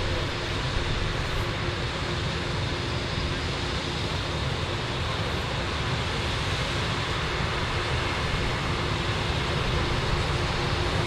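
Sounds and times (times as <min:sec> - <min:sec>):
farm machinery engine drone: 0:00.0 - 0:11.0.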